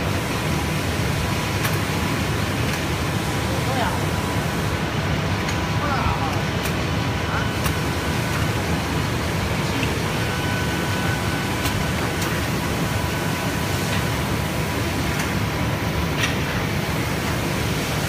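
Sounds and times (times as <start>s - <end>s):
machinery rumble and hum: 0.0s - 18.0s.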